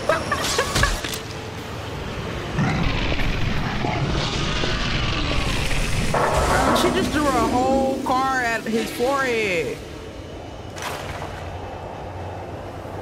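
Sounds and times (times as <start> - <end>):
heavy mechanical rumble: 0.8 - 13.0.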